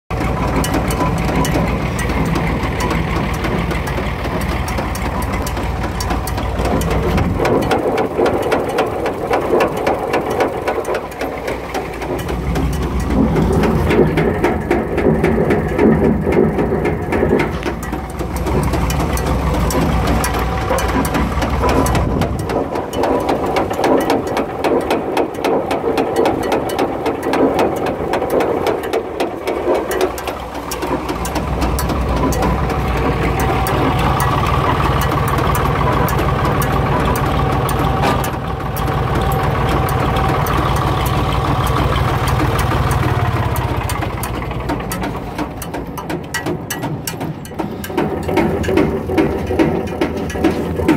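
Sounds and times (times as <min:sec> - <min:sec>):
tractor engine: 0:00.0 - 0:50.9
straw chopper running: 0:00.1 - 0:50.9.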